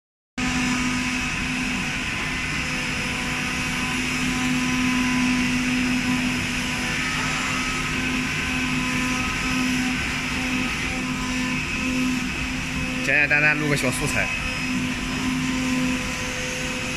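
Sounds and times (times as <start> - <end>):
cutting machine hum: 0.4 - 16.9.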